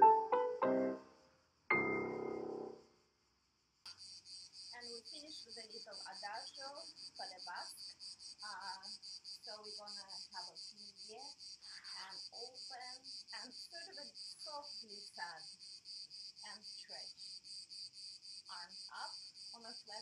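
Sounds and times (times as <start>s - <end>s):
insects chirring: 2.8s - 20.0s.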